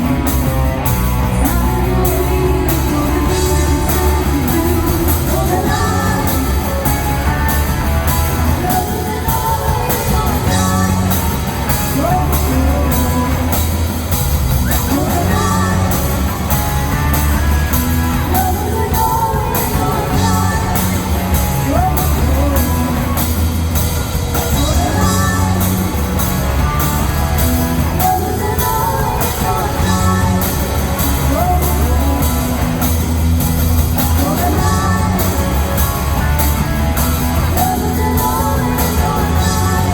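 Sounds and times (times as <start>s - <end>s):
person singing: 0.0s - 33.2s, 33.9s - 39.9s
drums and cymbals: 0.0s - 39.9s
electric guitar: 0.0s - 39.9s
heavy bass: 0.0s - 39.9s.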